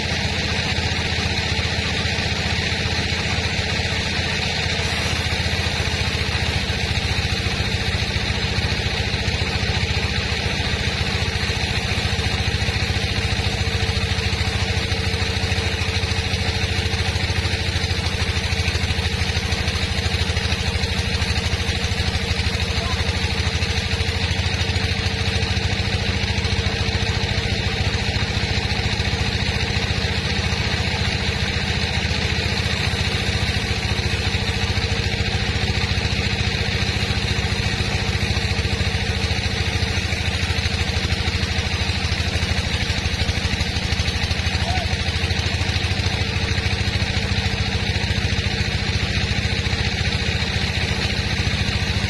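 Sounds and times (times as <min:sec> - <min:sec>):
sawmill engine drone: 0:00.0 - 0:52.0.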